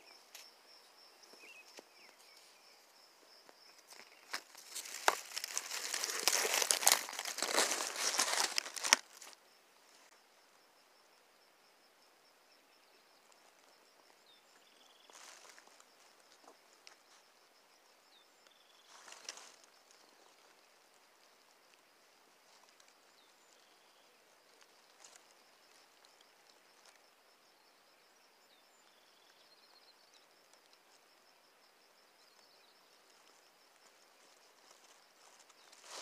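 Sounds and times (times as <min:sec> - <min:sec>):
faint chirps: 0:00.0 - 0:08.4, 0:09.1 - 0:36.0.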